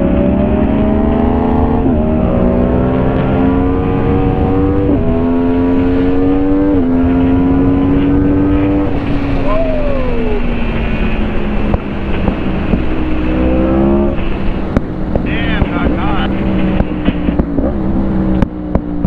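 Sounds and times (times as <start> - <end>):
wind on microphone: 0.0 - 18.6
motorcycle engine at full throttle: 0.0 - 19.0.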